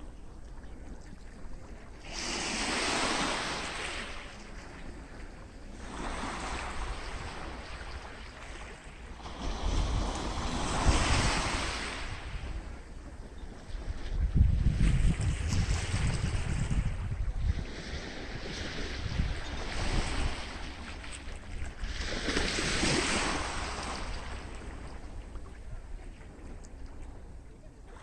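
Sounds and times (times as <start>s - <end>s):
sea waves breaking: 0.0s - 28.0s
wind rumble on microphone: 0.0s - 28.0s.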